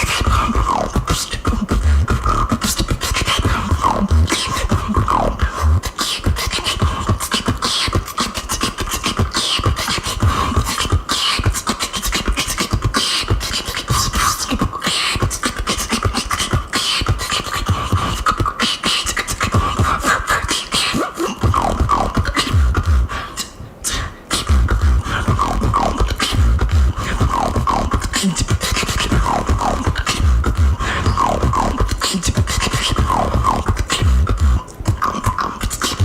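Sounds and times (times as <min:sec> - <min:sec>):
woman beatboxing: 0:00.0 - 0:36.0.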